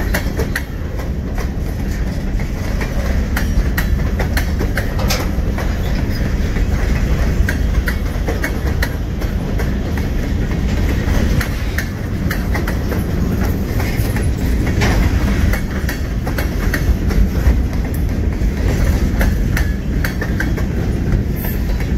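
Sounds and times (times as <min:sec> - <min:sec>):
freight train rumbling on rails: 0:00.0 - 0:21.9
wheels clacking over rail joints: 0:00.0 - 0:21.9.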